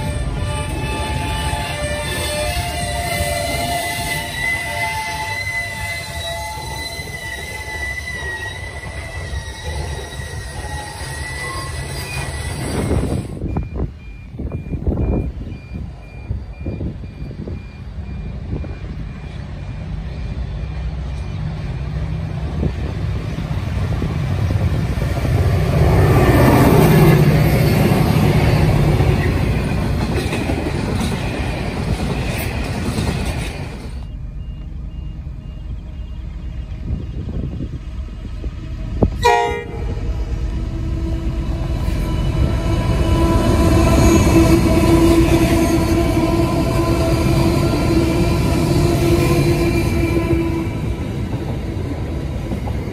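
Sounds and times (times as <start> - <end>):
train wheel squeal: 0.0 - 22.8, 25.0 - 52.9
train rumble: 0.0 - 52.9.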